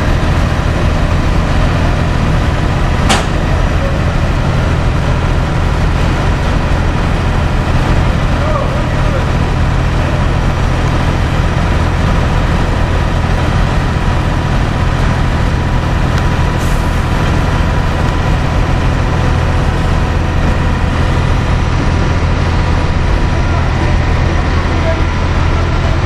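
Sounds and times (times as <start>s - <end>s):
truck diesel engine idling: 0.0s - 26.0s.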